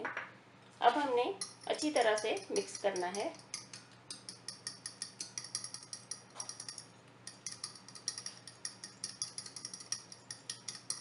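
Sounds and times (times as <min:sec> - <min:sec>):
spoon beating in glass bowl: 0:01.4 - 0:11.0.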